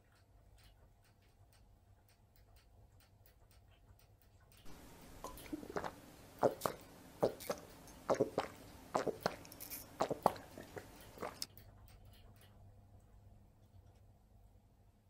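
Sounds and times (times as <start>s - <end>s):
dog teeth clicking on wire bars: 0.0s - 5.6s, 6.3s - 13.2s.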